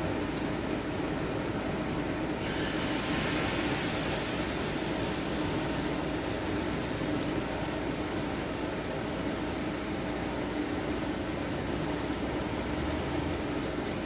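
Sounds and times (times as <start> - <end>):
batter sizzling in a pan: 2.3 - 13.8.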